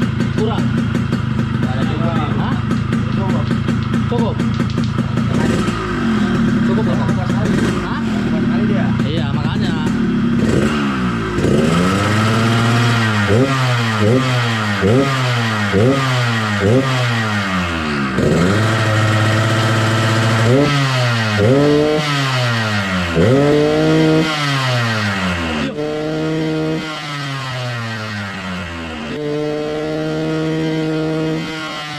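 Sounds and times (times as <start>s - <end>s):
two-stroke engine revving: 0.0s - 31.9s.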